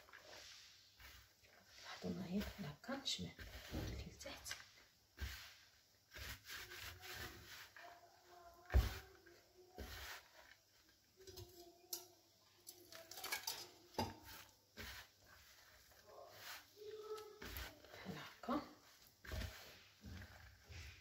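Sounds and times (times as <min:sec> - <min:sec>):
hands rubbing pastry dough: 0:00.0 - 0:11.8, 0:12.6 - 0:21.0.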